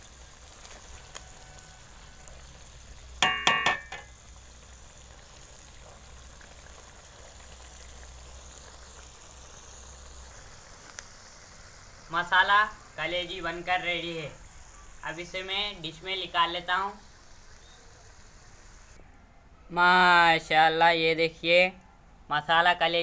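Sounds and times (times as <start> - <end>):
gravy simmering hiss: 0.0 - 19.0.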